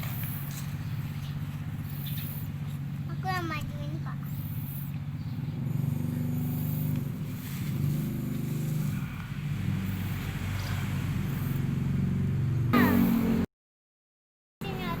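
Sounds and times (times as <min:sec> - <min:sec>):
vehicle engine running: 0:00.0 - 0:13.5, 0:14.6 - 0:15.0.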